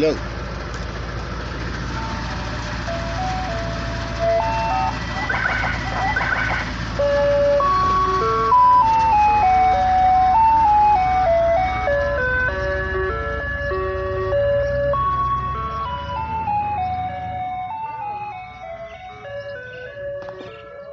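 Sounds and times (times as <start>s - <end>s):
ice cream truck jingle: 0.0s - 20.9s.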